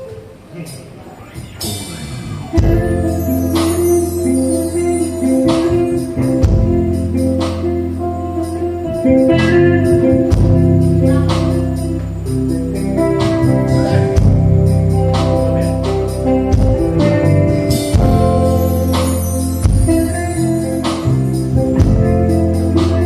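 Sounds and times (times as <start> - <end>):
live band music: 0.0 - 23.0
steady beat: 0.4 - 23.0
sustained bass line: 1.3 - 23.0.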